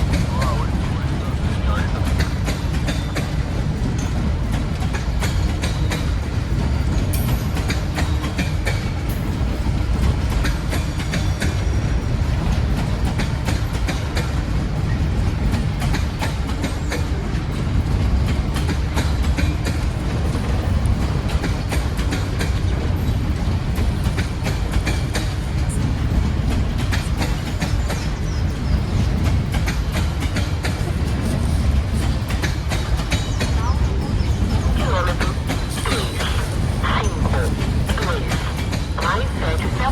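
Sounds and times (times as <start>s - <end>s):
freight train rumble: 0.0s - 39.9s
wheels clattering on rails: 0.0s - 39.9s.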